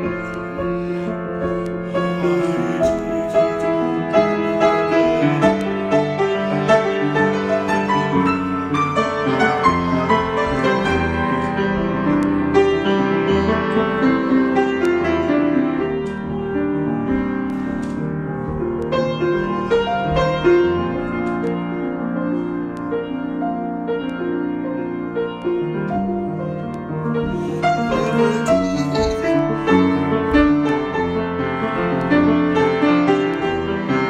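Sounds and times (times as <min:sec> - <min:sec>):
piano improvisation: 0:00.0 - 0:34.0.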